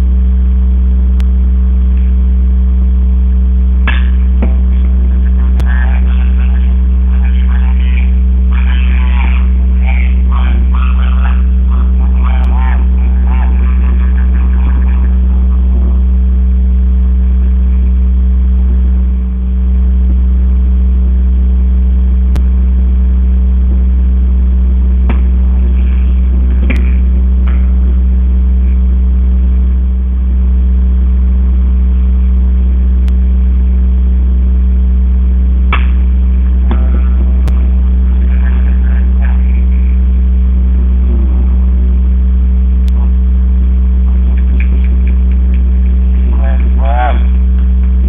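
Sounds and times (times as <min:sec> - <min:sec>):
low hum with higher tone: 0:00.0 - 0:48.0.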